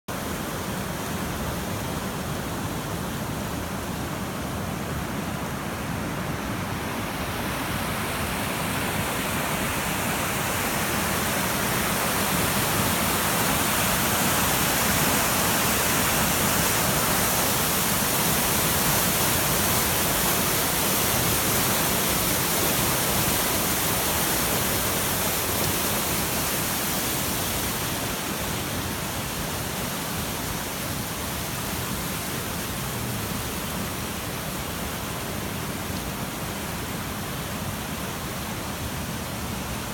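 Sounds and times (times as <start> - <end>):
floodwater rushing: 0.2 - 39.9.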